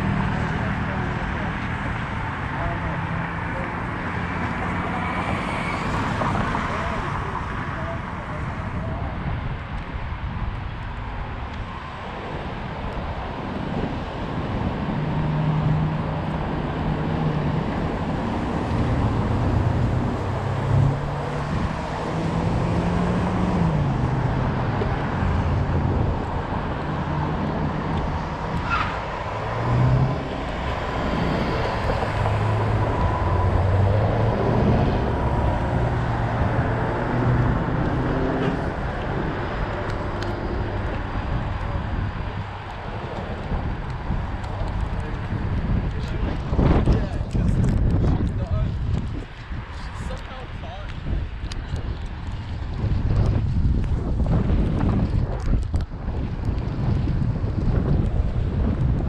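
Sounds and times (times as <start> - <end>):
road noise: 0.0 - 59.0
wind noise: 0.0 - 59.0.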